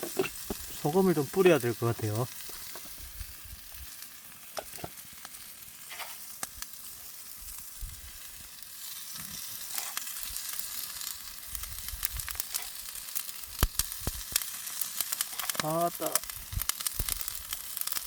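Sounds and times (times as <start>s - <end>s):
meat sizzling on hot stone: 0.0s - 18.0s.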